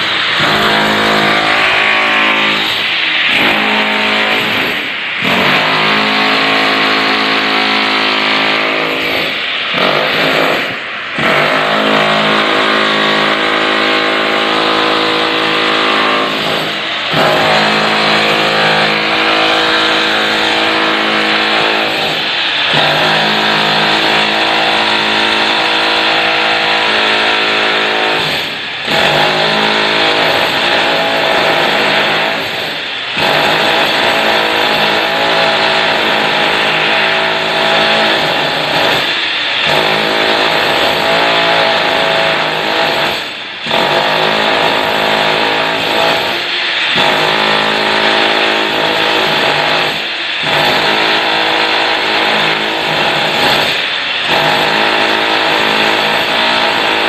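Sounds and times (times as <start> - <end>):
power tool grinding floor tiles: 0.0 - 57.0.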